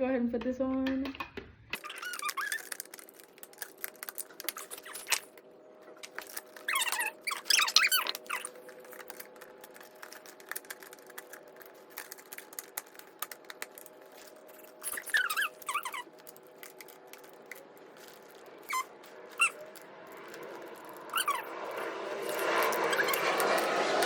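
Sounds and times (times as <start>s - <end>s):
high wavering squeaks: 1.8s - 23.8s.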